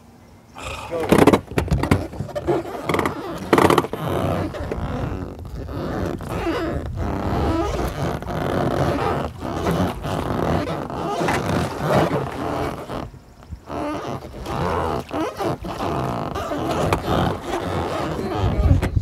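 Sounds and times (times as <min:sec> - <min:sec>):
wind buffeting microphone: 0:00.6 - 0:19.0.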